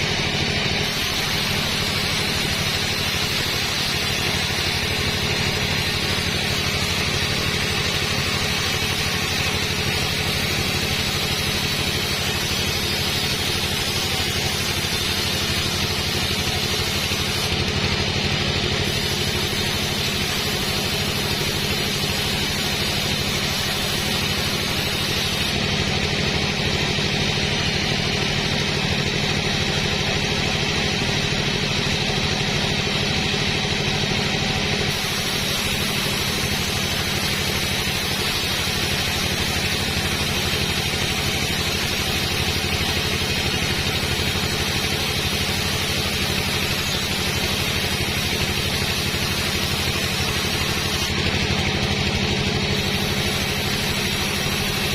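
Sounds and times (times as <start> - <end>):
sawmill machinery drone: 0.0 - 54.9.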